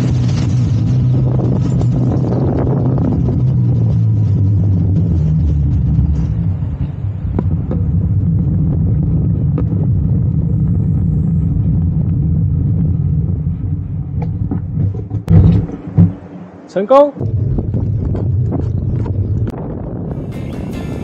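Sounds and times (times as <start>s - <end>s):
bike rumbling over road: 0.0s - 20.2s.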